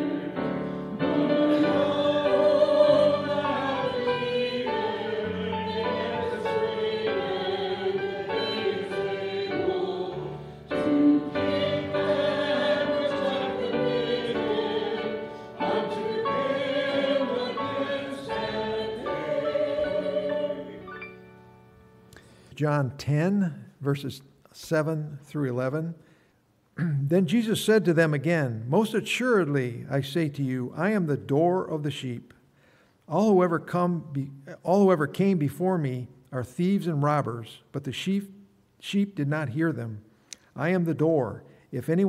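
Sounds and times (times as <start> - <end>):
slow sung church song: 0.0 - 42.0.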